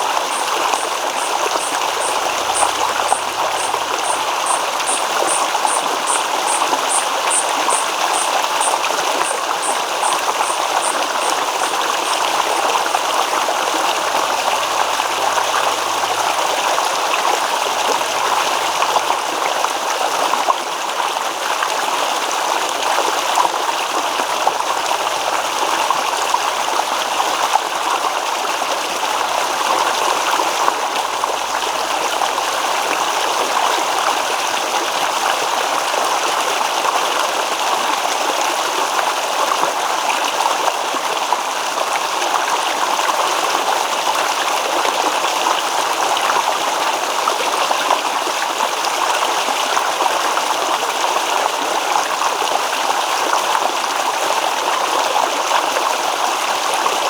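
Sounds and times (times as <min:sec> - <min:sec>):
stream babbling over stones: 0:00.0 - 0:57.0.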